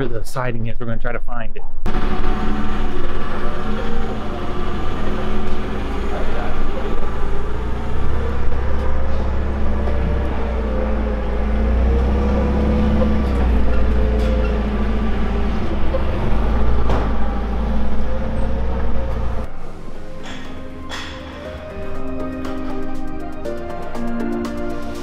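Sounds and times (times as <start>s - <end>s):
forklift engine rumbling: 1.8s - 23.5s.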